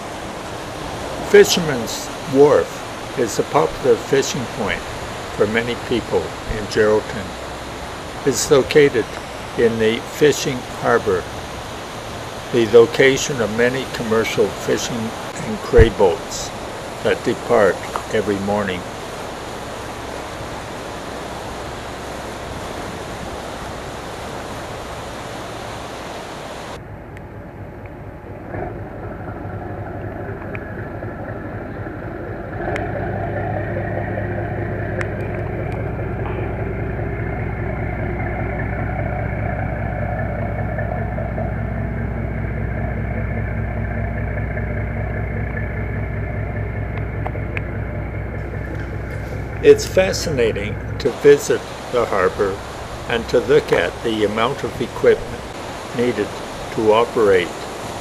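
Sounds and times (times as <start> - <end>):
engine idling: 0.0 - 58.0
steady rushing noise: 0.0 - 58.0.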